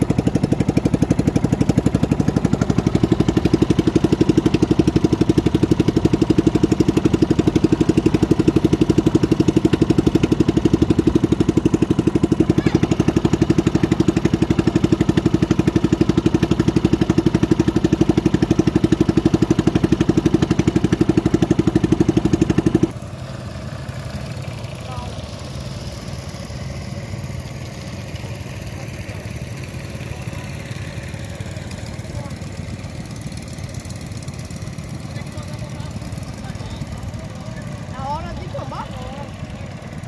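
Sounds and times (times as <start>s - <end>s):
motorboat engine running: 0.0s - 40.0s.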